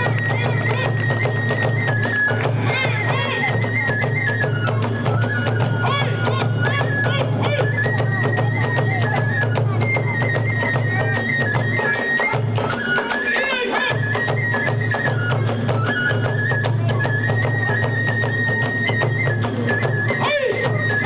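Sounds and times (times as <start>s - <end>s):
bamboo flute melody: 0.0s - 21.0s
fast drum beats: 0.0s - 21.0s.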